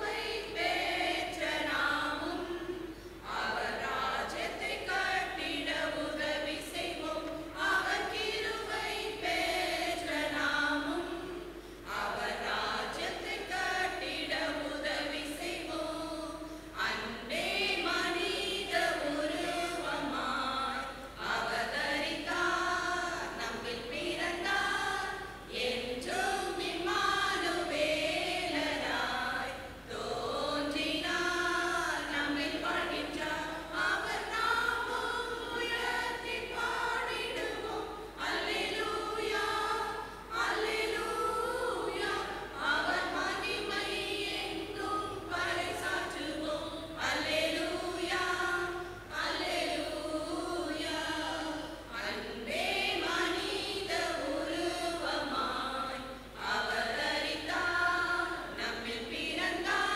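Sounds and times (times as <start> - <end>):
women's choir singing a carol: 0.0 - 59.9.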